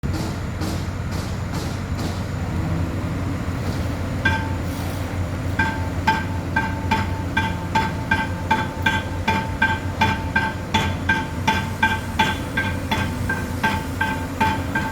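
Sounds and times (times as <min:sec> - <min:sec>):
low engine-like rumble: 0:00.0 - 0:14.9.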